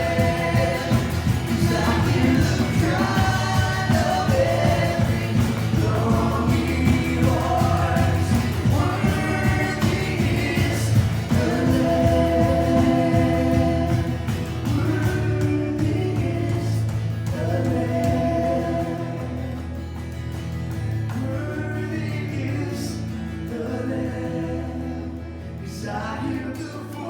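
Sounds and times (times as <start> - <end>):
voices singing together: 0.0 - 19.9, 21.1 - 27.0.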